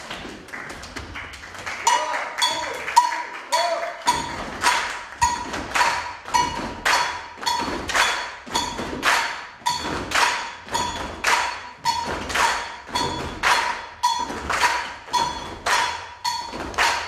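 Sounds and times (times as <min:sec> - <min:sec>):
group body percussion beat: 0:00.0 - 0:17.0.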